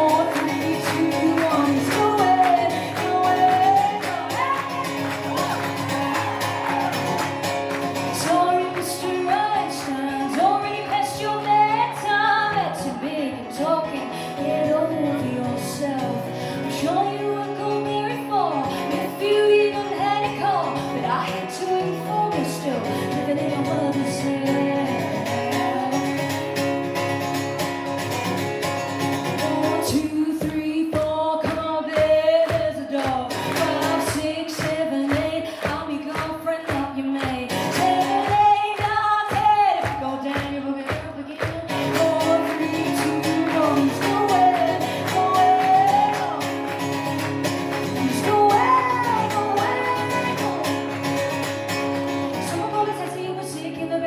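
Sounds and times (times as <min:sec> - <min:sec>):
woman singing: 0:00.0 - 0:26.6, 0:29.2 - 0:54.0.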